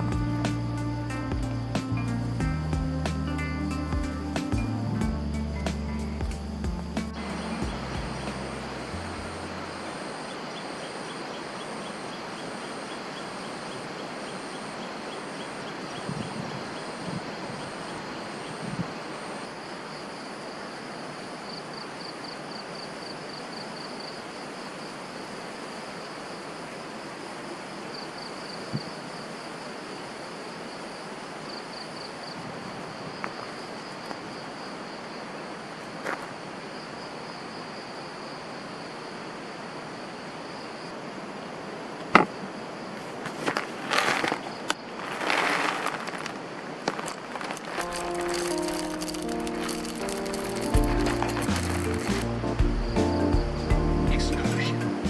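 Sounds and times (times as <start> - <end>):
insects trilling: 0.0 - 55.0
steady hiss: 0.0 - 55.0.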